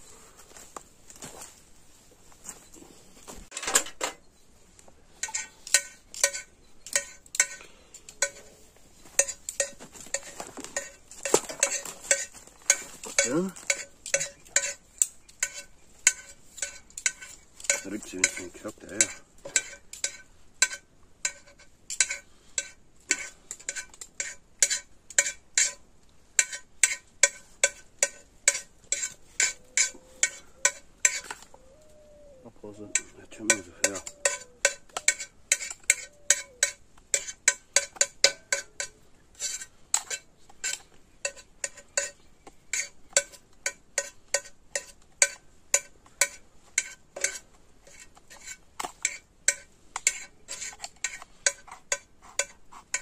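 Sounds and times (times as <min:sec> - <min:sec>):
metal utensil scraping metal pot: 0:05.1 - 0:31.6, 0:32.6 - 0:53.0.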